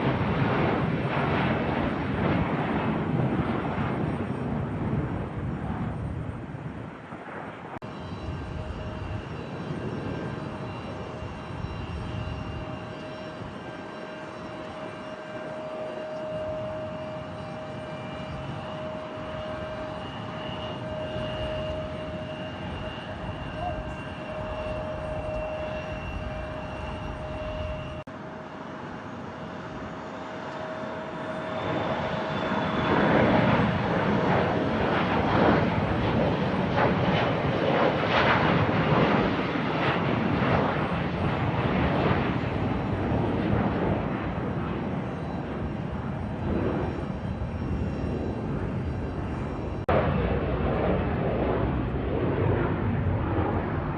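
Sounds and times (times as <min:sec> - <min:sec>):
jet engines whining: 0:00.0 - 0:53.9
jet passing by: 0:00.0 - 0:53.9.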